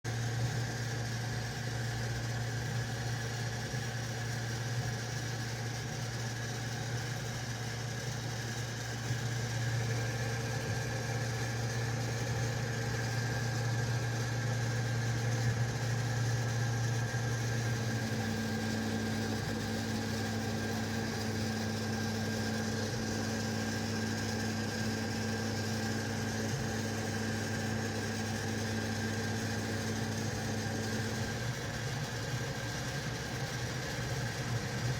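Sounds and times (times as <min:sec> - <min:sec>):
printer mechanical hum: 0:00.1 - 0:34.9.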